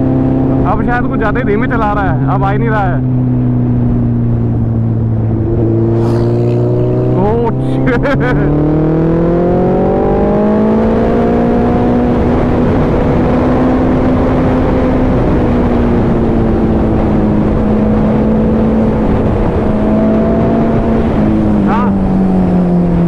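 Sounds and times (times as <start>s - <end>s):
wind rush over microphone: 0.0s - 23.0s
motorcycle engine revving: 2.3s - 23.0s.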